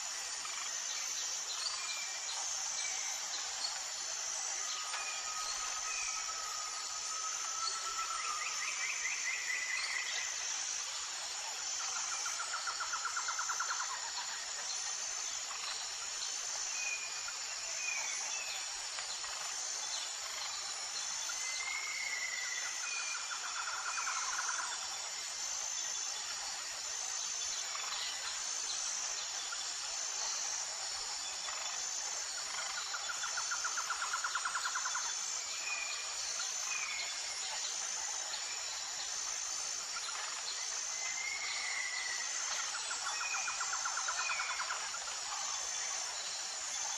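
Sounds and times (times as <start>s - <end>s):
insects chirring: 0.0s - 46.9s.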